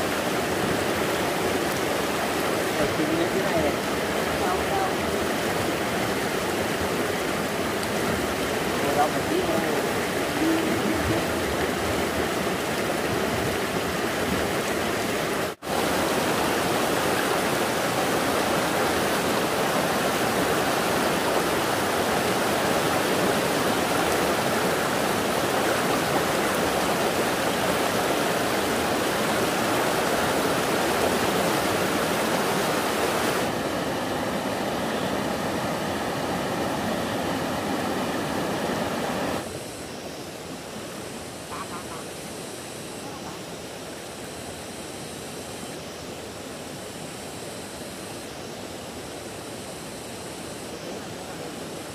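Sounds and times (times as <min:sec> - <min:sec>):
stream water rushing: 0:00.0 - 0:51.9.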